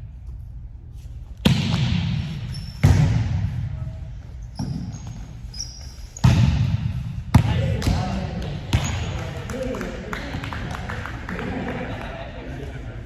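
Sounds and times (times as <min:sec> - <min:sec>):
volleyball hits echoing in gym: 0:01.4 - 0:11.9.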